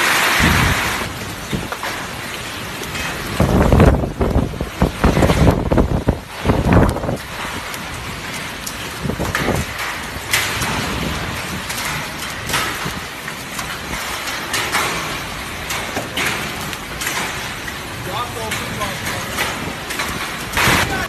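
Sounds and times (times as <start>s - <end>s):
wind and rain rushing: 0.0s - 21.0s.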